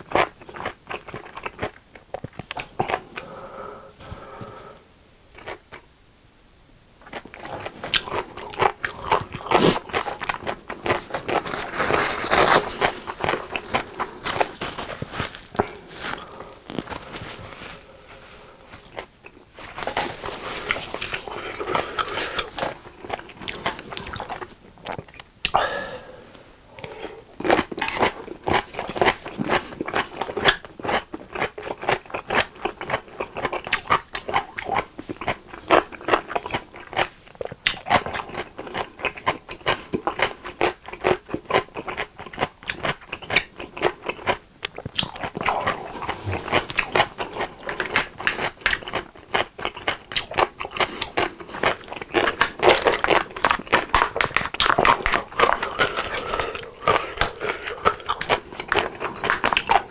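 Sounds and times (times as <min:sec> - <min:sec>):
mouth chewing food: 0:00.0 - 0:04.6, 0:05.3 - 0:05.9, 0:07.0 - 0:25.7, 0:26.7 - 0:59.9.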